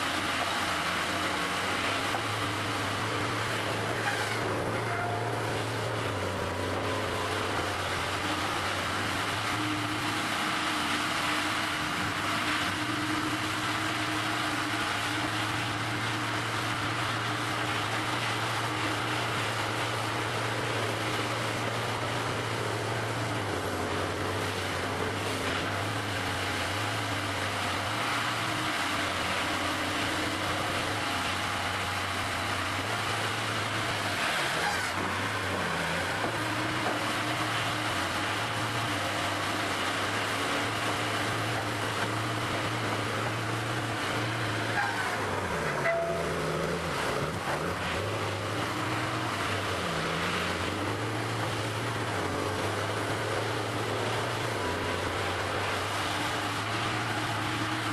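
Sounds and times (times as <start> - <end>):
diesel engines droning: 0.0 - 57.9.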